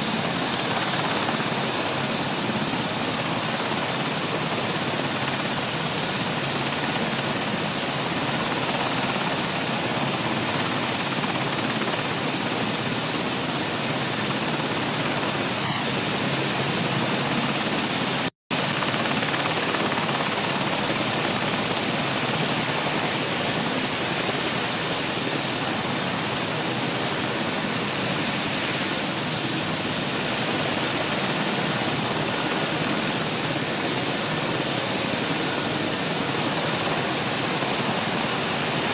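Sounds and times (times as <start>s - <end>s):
aircraft turbine engines running: 0.0s - 38.9s.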